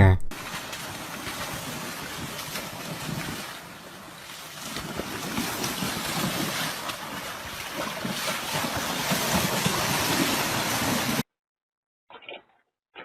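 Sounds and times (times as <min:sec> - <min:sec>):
rushing water: 0:00.3 - 0:11.2.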